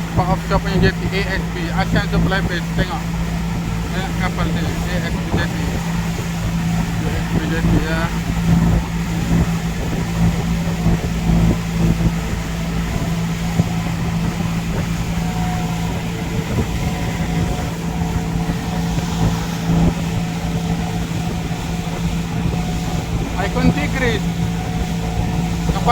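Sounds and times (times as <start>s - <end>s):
boat engine hum: 0.0s - 25.9s
water noise: 0.0s - 25.9s
wind noise: 0.0s - 25.9s.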